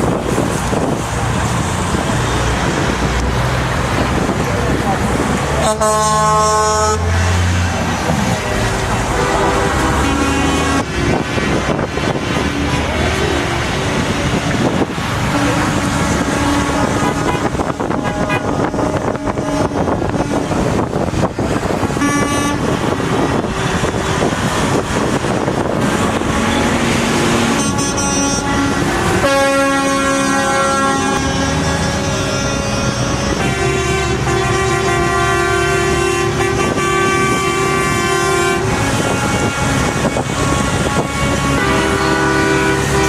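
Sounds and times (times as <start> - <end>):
truck horns honking: 0.0 - 43.0
trucks passing with engine noise: 0.0 - 43.0.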